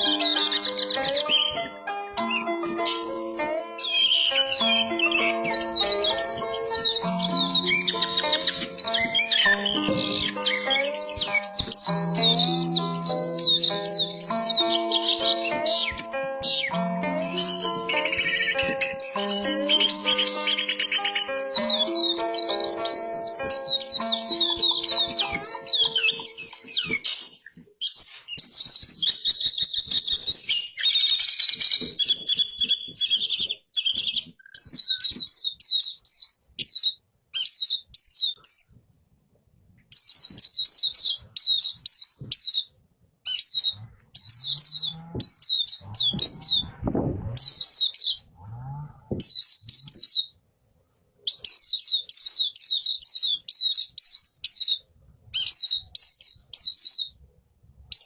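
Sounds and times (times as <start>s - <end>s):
bird twittering song: 0.0s - 38.8s, 39.9s - 42.7s, 43.3s - 50.4s, 51.2s - 57.2s.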